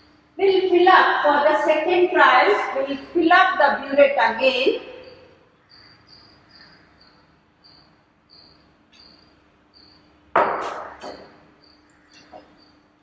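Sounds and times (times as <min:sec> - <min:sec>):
crickets chirping: 0:00.0 - 0:13.0
faint steady hum: 0:00.0 - 0:13.0.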